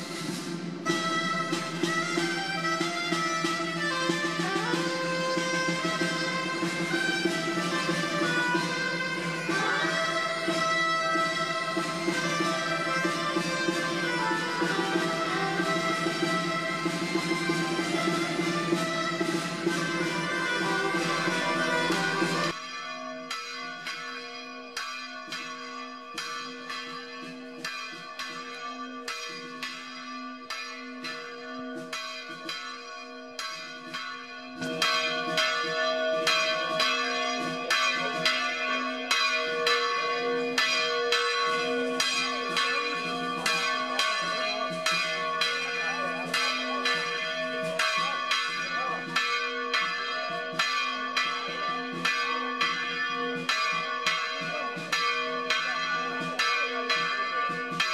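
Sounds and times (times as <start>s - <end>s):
church bells ringing a peal: 0.0s - 57.9s.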